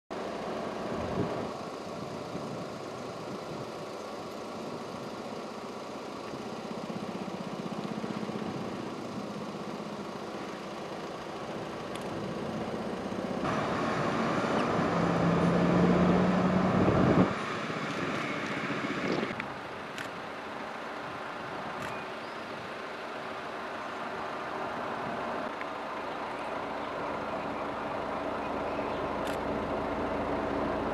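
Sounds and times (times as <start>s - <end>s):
engine noise: 0.1s - 30.9s.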